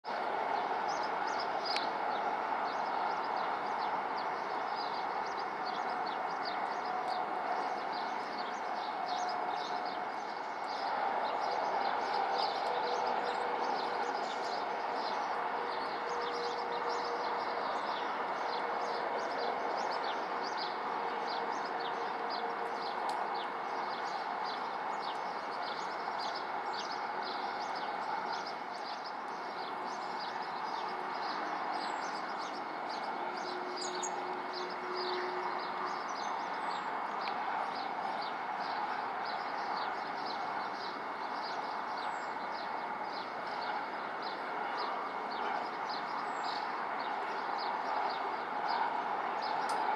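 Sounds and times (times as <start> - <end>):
distant traffic hum: 0.1 - 49.9.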